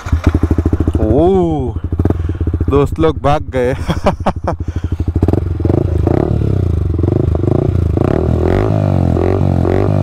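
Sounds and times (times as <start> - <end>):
motorcycle engine idling: 0.0 - 8.1.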